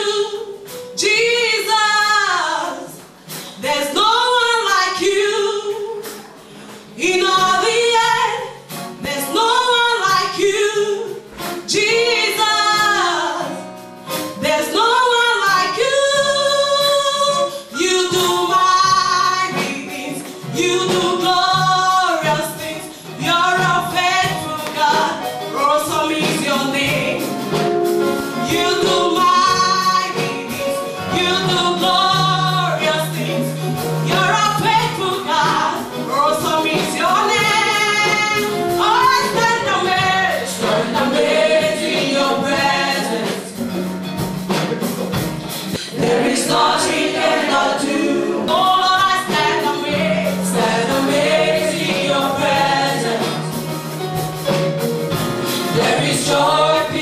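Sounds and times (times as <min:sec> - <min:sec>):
gospel worship song: 0:00.0 - 0:57.0.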